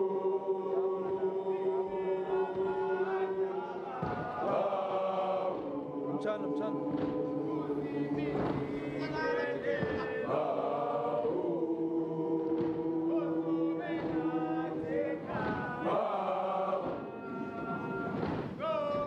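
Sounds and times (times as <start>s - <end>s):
boys singing a cappella chant: 0.0s - 19.0s.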